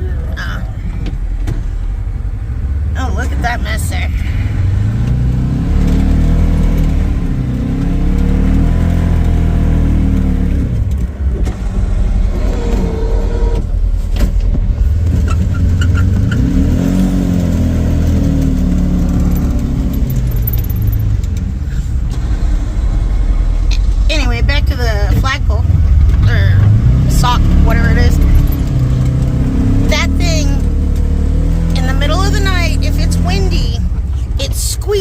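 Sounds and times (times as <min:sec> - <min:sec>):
vehicle engine running under load: 0:00.0 - 0:35.0.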